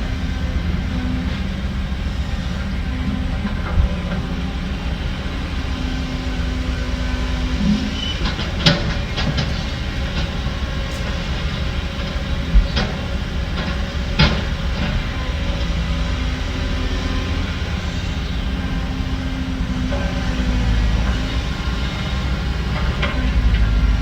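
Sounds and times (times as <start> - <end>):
heavy diesel machinery rumbling: 0.0 - 24.0.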